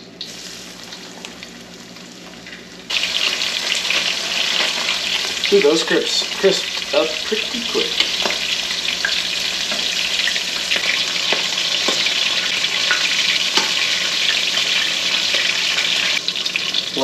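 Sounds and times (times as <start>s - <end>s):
food sizzling in hot oil: 0.2s - 17.0s.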